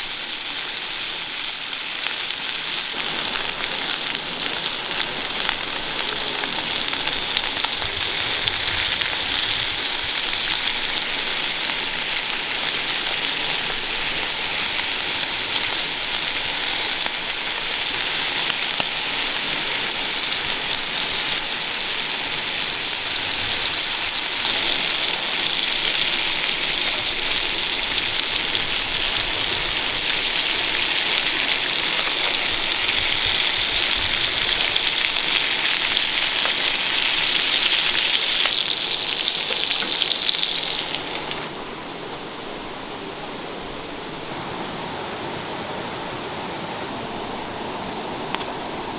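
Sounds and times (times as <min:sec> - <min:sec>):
steak sizzling in a pan: 0:00.0 - 0:41.5.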